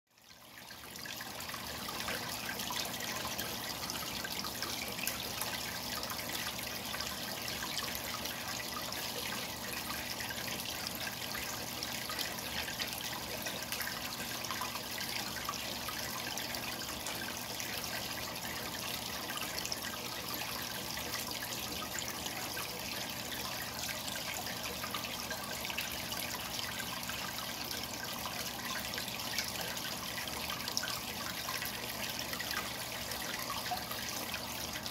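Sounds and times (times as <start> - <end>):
aquarium water bubbling: 0.1 - 34.9.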